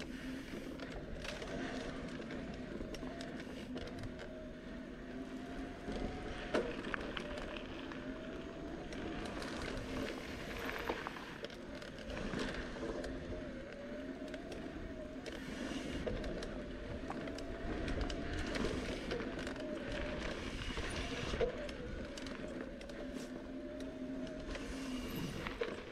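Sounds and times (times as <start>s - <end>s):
bicycle tyre hum on dirt: 0.0s - 25.9s
bike clicks and rattles: 0.0s - 25.9s
wind rumble on microphone: 0.0s - 25.9s.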